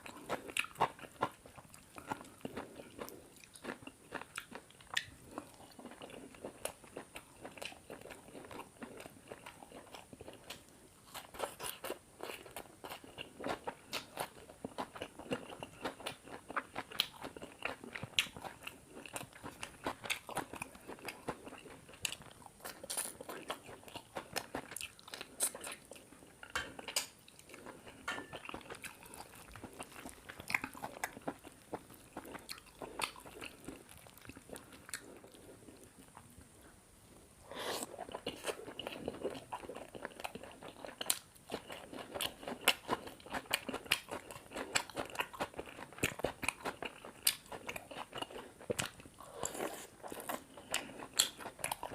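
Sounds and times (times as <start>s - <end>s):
person chewing food: 0.0s - 36.7s, 37.5s - 51.9s.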